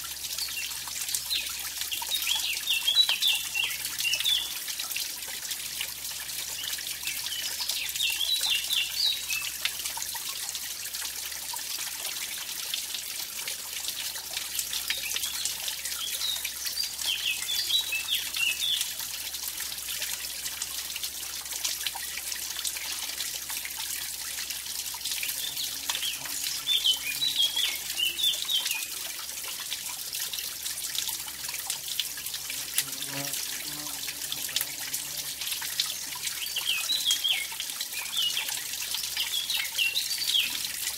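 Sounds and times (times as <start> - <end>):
stream over small waterfall: 0.0 - 40.9.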